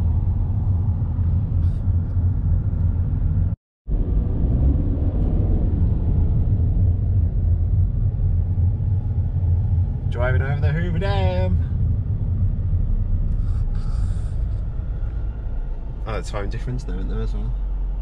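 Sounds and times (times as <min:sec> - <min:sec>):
car and road rumble: 0:00.0 - 0:18.0.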